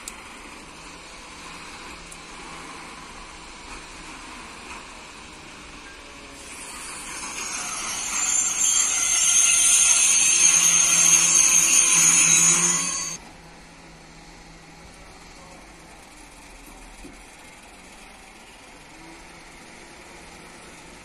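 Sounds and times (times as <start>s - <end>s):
train wheel and rail noise: 0.0s - 18.6s.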